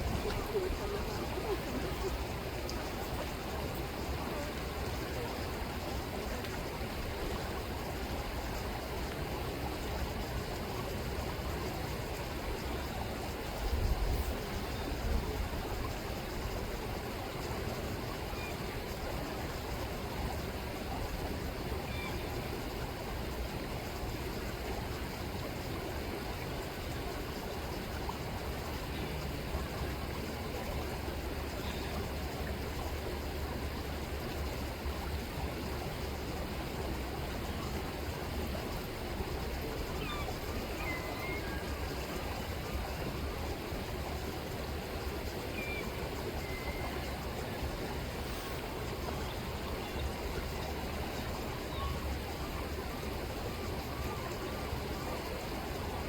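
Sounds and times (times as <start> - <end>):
river water rippling: 0.0 - 56.0.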